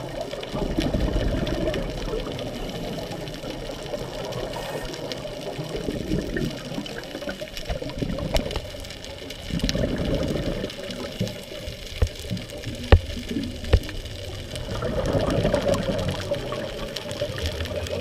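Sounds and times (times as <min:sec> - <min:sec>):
regulator bubbles gurgling underwater: 0:00.0 - 0:18.0.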